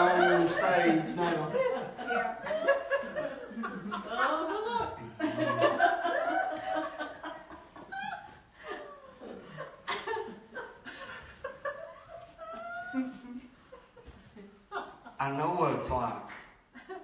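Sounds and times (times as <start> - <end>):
people laughing: 0.0 - 17.0.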